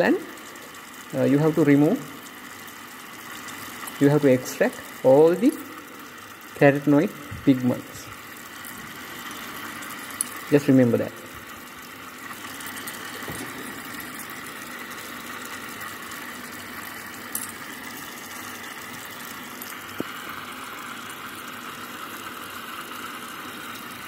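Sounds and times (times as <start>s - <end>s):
vacuum filtration suction: 0.0s - 24.0s.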